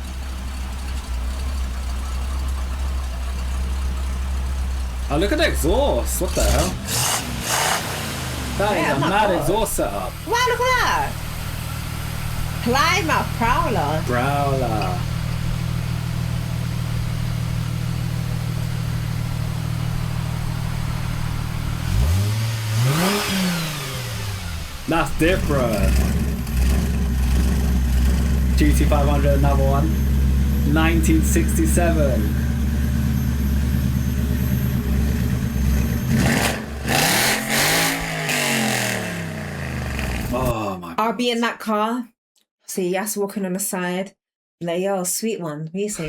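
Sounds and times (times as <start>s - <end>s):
car engine idling and revving: 0.0s - 40.5s
exhaust blasting: 0.0s - 40.6s.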